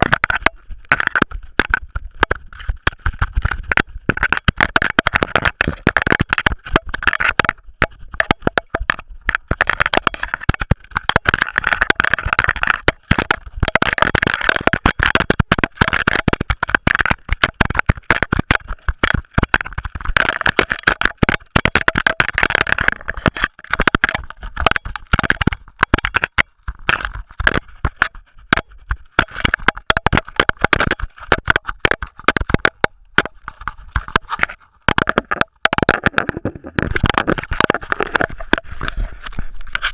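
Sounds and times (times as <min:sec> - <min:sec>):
clatter of knocks and rattles: 0:00.0 - 0:39.9.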